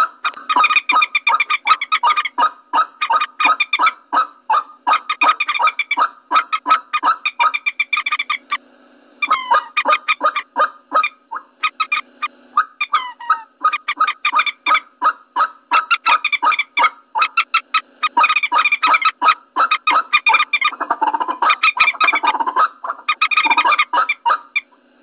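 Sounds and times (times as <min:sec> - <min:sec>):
moorhen clucking calls: 0:00.0 - 0:08.6, 0:09.2 - 0:24.7.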